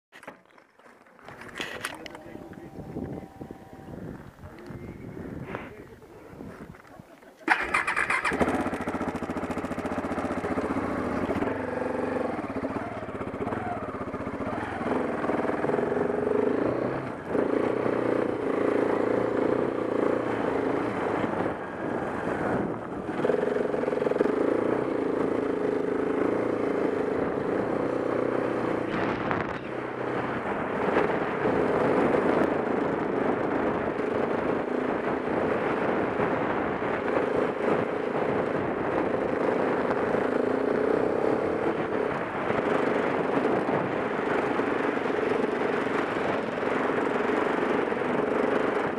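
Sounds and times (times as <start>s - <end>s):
motorcycle engine revving: 7.4s - 48.9s.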